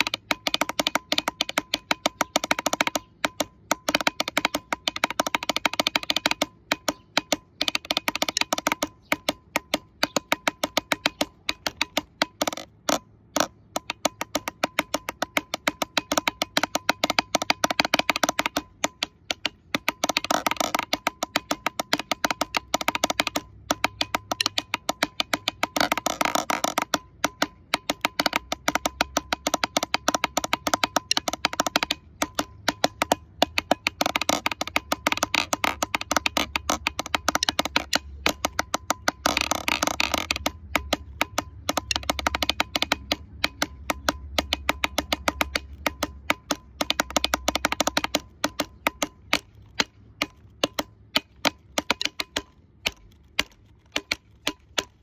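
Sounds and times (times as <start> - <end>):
drumsticks on plastic lid: 0.0 - 55.0.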